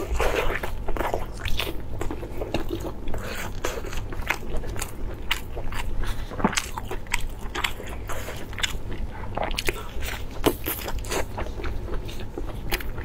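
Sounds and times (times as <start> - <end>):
close chewing and wet mouth sounds: 0.0 - 13.0
steady low hum: 0.0 - 13.0.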